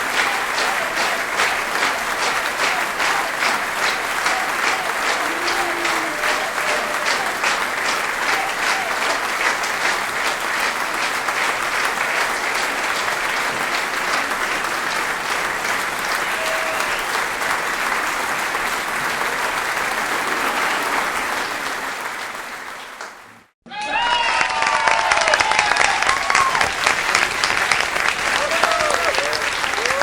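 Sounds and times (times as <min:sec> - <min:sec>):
large audience applauding: 0:00.0 - 0:30.0.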